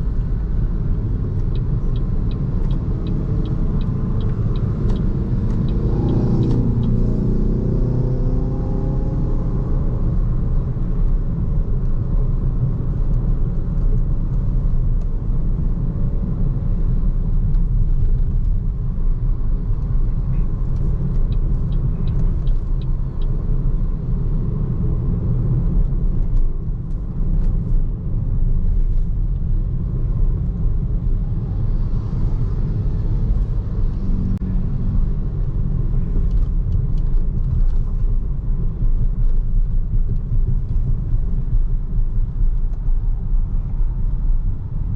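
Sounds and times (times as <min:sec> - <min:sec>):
road and tyre noise: 0:00.0 - 0:44.9.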